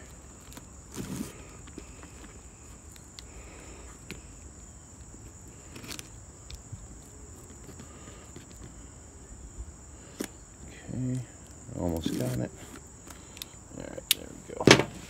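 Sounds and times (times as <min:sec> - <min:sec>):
steady high-pitched whine: 0:00.0 - 0:15.0.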